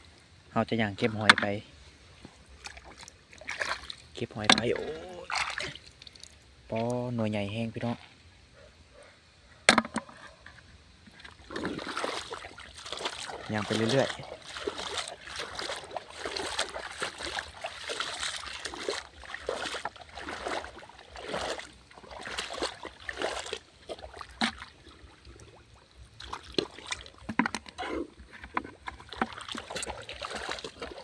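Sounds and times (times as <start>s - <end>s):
legs wading through shallow water: 0.9s - 7.0s, 11.1s - 31.0s.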